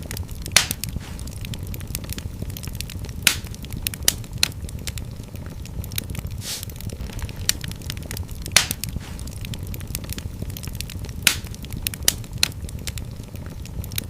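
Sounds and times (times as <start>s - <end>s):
fire crackles and pops: 0.0s - 14.0s
fire flames rumbling: 0.0s - 14.0s
soft hiss: 0.0s - 14.0s.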